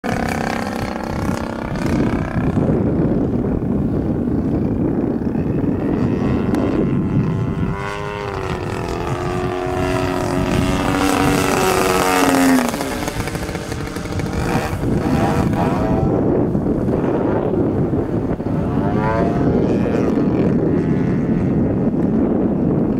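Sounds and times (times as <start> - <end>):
model plane engine: 0.0 - 22.9.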